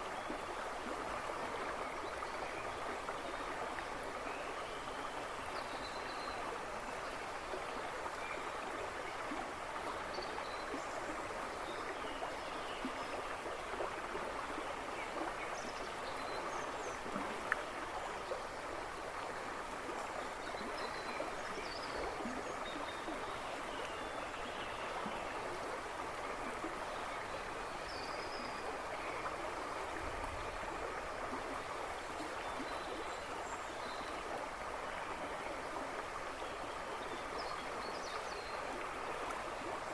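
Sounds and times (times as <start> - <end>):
river rushing and babbling: 0.0 - 39.9.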